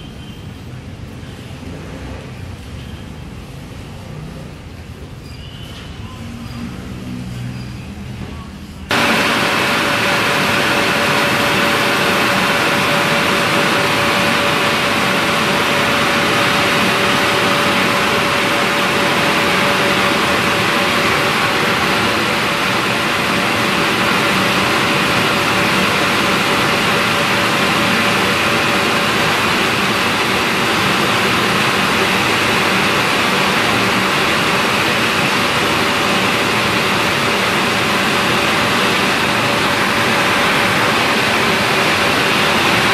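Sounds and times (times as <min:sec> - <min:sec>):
car wash machinery running: 0:05.9 - 0:42.9.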